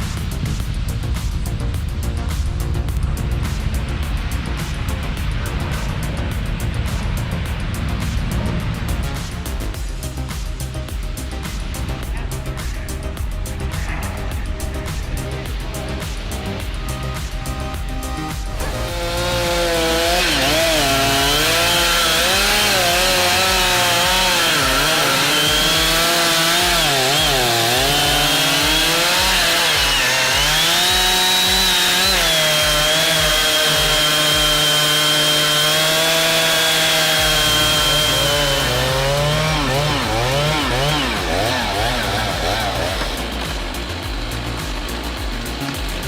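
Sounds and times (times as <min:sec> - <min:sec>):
chainsaw cutting wood: 0:08.0 - 0:46.0.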